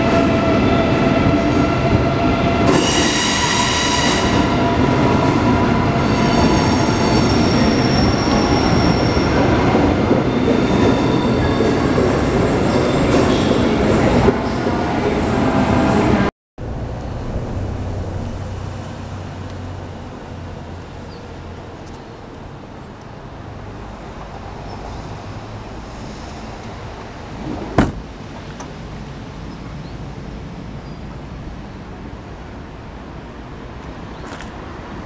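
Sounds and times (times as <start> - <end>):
train rumble: 0.0 - 35.0.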